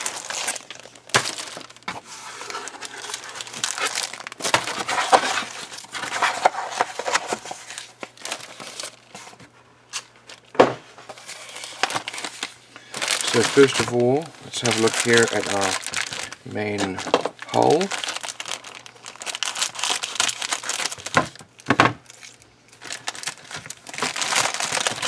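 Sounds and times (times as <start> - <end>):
plastic bags crinkling: 0.0 - 9.2, 11.1 - 25.0.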